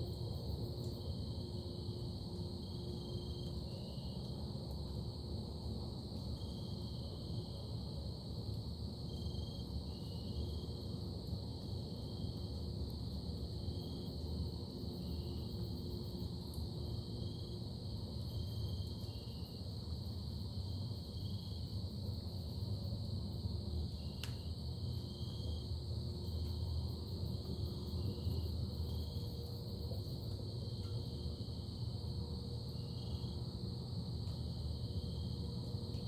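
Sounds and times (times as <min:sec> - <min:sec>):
insect trill: 0:00.0 - 0:36.0.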